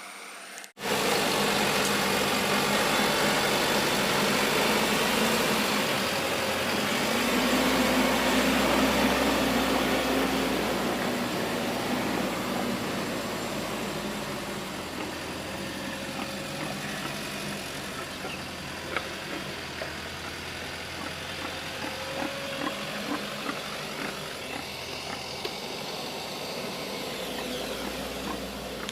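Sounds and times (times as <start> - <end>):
diesel engine running: 0.1 - 28.9.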